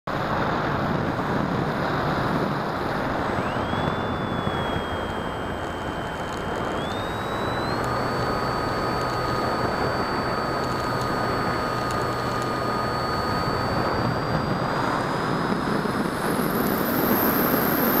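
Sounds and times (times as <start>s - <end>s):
wind and propeller rush: 0.1s - 18.0s
electric motor whine: 0.2s - 18.0s.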